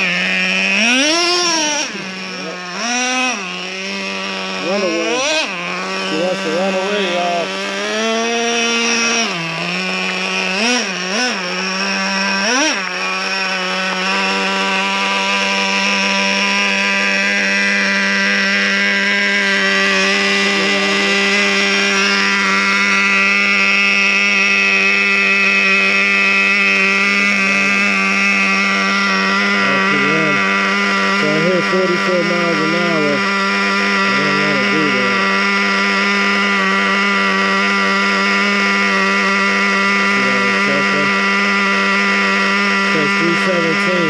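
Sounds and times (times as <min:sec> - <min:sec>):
nitro engine revving: 0:00.0 - 0:44.0.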